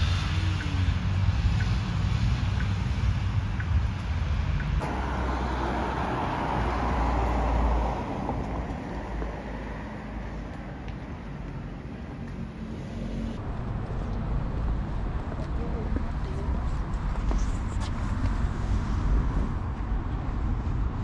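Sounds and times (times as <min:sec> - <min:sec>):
vehicle road noise: 0:00.0 - 0:21.0.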